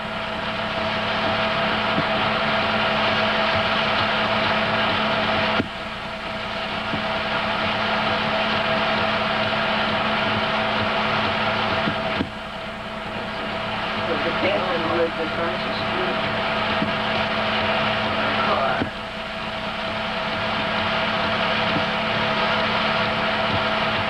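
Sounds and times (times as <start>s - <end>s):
film projector motor whirring: 0.0s - 24.0s
low hum: 0.0s - 24.0s
steady tone: 0.0s - 24.0s.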